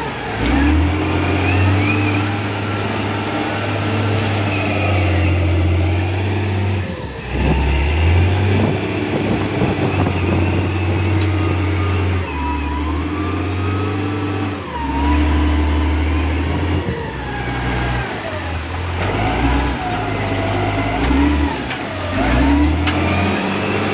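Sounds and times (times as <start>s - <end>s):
loader diesel engine: 0.0s - 23.9s.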